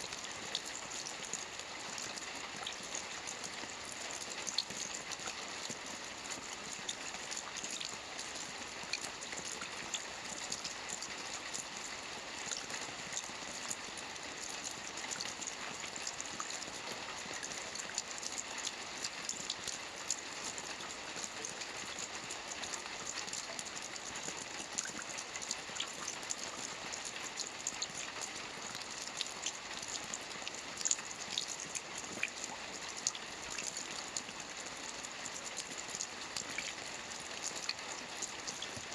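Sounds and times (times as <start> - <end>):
rain falling on a lake: 0.0 - 38.9.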